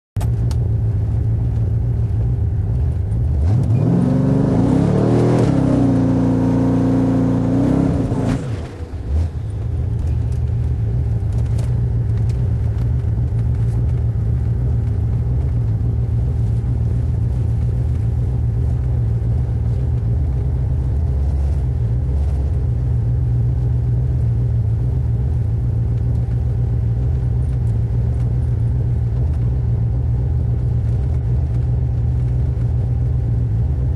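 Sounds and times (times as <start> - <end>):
car engine rumbling and revving: 0.2 - 33.9.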